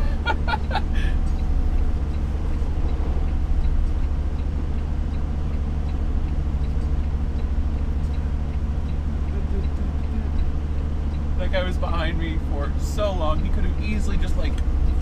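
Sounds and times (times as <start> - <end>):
diesel truck engine running: 0.0 - 15.0
faint regular ticking: 0.0 - 15.0.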